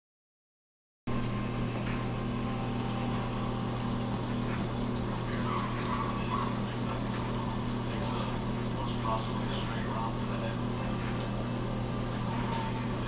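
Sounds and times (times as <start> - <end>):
aquarium pumps humming: 1.1 - 13.0.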